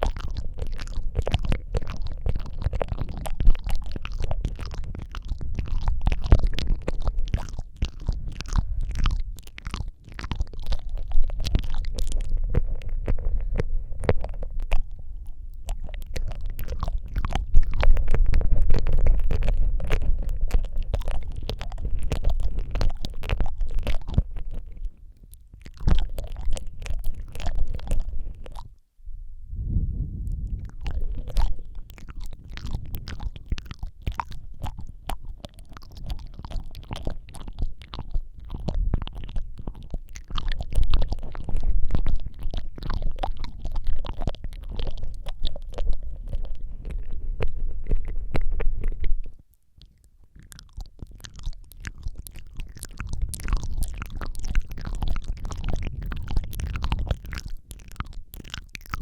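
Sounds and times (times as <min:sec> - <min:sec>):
wet mouth clicks and smacks: 0:00.0 - 0:28.8, 0:30.2 - 0:59.0
deep low rumble: 0:00.0 - 0:49.4, 0:50.7 - 0:59.0.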